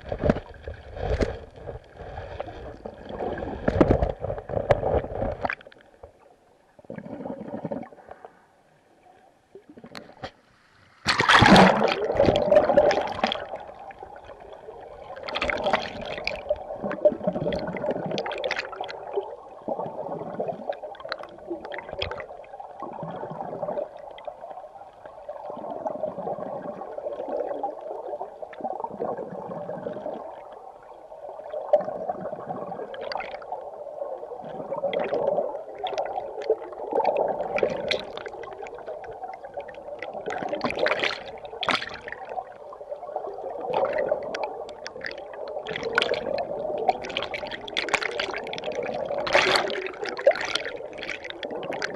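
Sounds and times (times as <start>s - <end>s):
underwater river gurgling rush: 0.0s - 8.4s, 11.0s - 51.9s.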